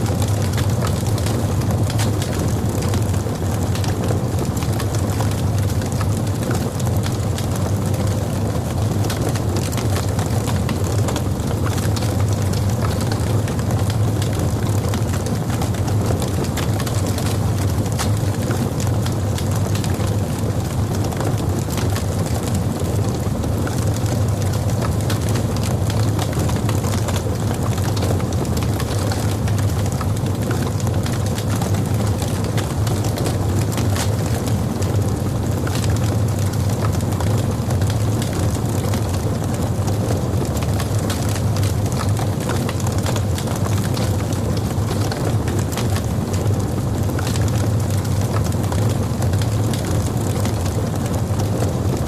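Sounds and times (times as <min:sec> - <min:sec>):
log fire crackling: 0:00.0 - 0:52.0.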